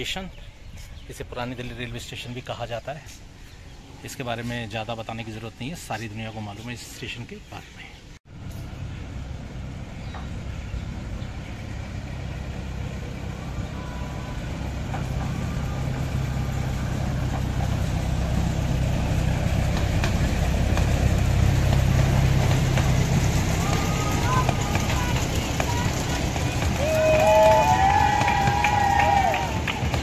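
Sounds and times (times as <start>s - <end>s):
engine rumbling: 0.0s - 30.0s.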